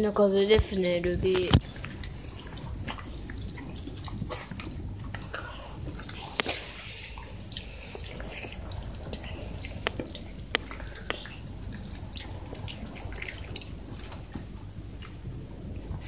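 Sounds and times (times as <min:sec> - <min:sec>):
dog chewing with wet smacking: 0:01.4 - 0:16.0.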